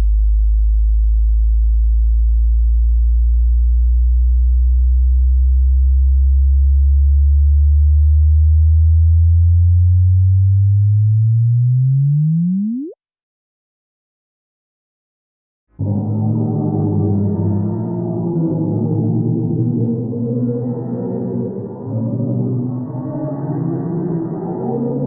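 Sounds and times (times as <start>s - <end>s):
low pure tone rising in pitch: 0.0s - 13.0s, 15.8s - 25.0s.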